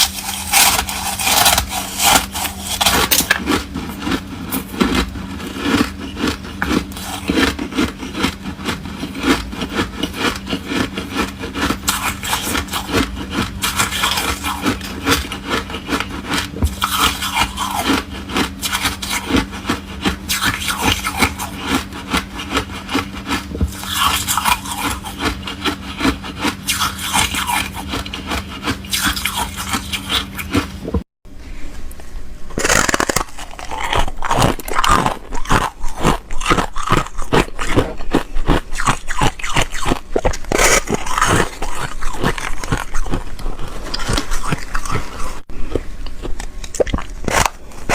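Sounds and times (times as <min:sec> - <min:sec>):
crunching and chewing ice: 0:00.0 - 0:31.0, 0:32.5 - 0:47.9
low steady hum: 0:00.0 - 0:47.9.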